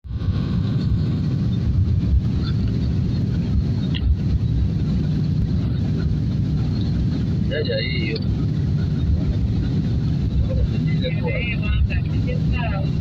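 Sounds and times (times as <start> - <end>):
jet engines and airflow rumble: 0.0 - 13.0.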